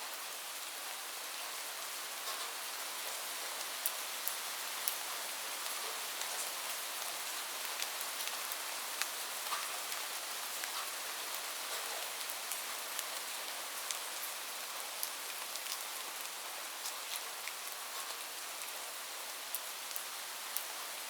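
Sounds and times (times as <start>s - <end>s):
steady rain hiss: 0.0s - 21.0s
raindrops ticking on a roof: 1.4s - 21.0s.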